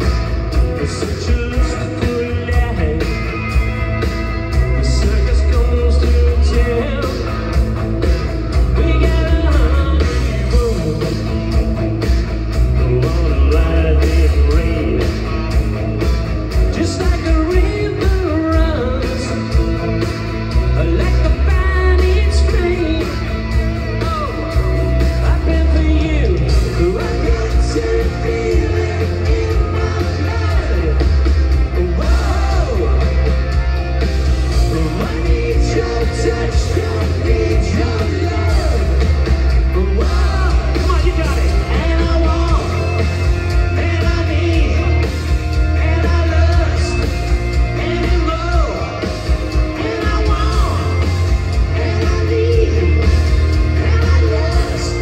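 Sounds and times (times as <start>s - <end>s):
lead singer singing: 0.0s - 3.6s, 4.5s - 7.7s, 8.5s - 11.6s, 12.7s - 15.4s, 16.6s - 33.8s, 34.4s - 55.0s
live rock band playing: 0.0s - 55.0s.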